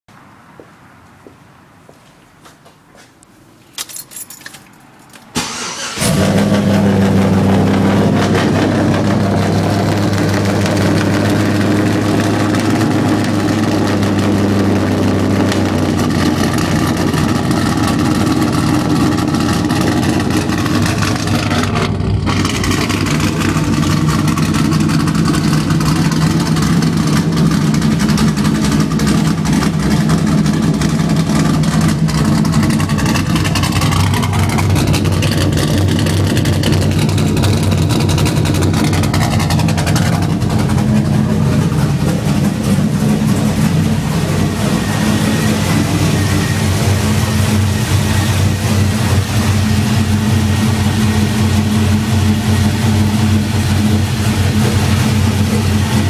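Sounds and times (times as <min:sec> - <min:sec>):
car engine cranking and idling: 0:03.8 - 0:56.0.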